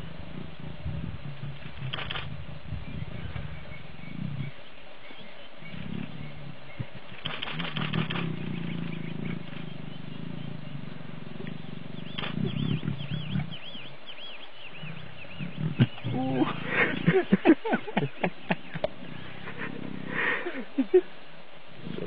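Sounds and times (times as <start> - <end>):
lions growling and snarling: 0.0 - 4.6, 5.6 - 21.0, 21.7 - 22.0.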